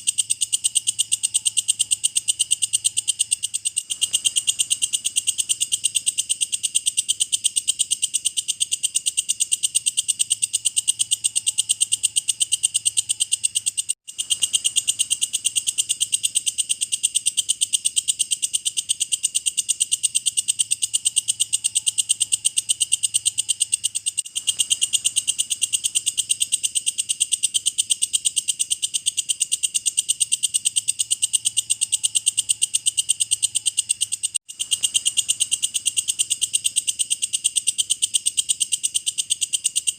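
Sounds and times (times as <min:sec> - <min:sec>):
katydid chirping: 0:00.0 - 0:39.9.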